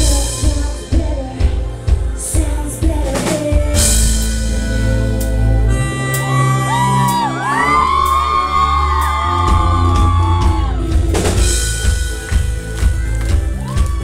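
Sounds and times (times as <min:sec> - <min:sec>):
bass and drums: 0:00.0 - 0:14.0.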